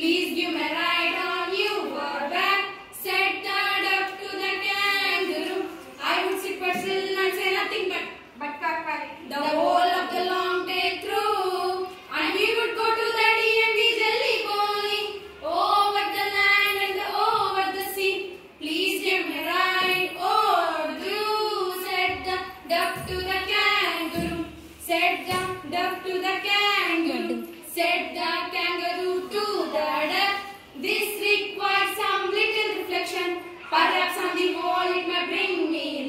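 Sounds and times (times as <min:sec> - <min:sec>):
girls singing unaccompanied: 0:00.0 - 0:36.0.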